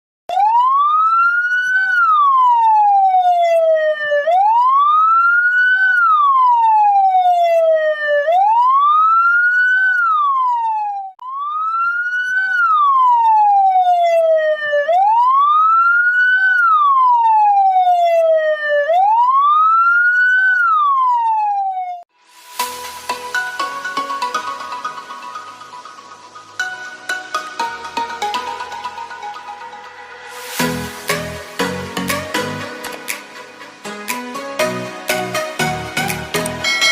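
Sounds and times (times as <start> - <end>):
electronic ambulance siren wailing: 0.3 - 36.9.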